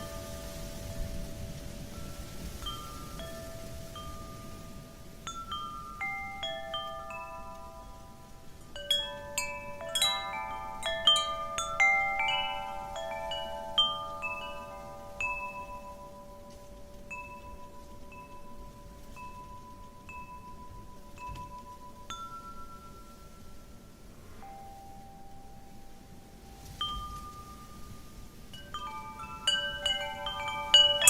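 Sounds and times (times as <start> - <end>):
metal wind chimes ringing: 0.0 - 31.0
soft rush of wind: 0.0 - 31.0.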